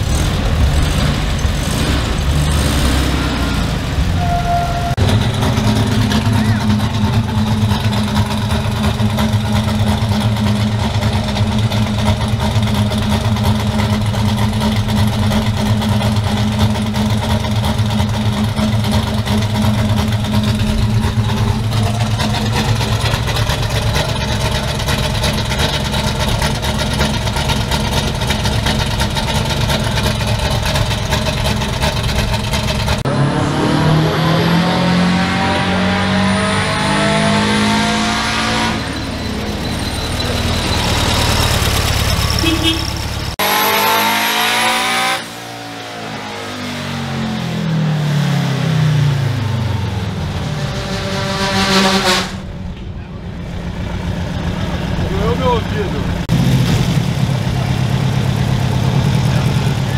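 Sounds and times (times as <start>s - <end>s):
car accelerating: 0.0s - 59.9s
car engine running loudly: 0.0s - 59.9s.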